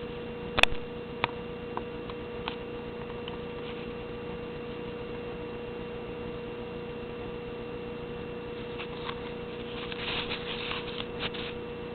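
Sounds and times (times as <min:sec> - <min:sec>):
constant hum: 0:00.0 - 0:11.9.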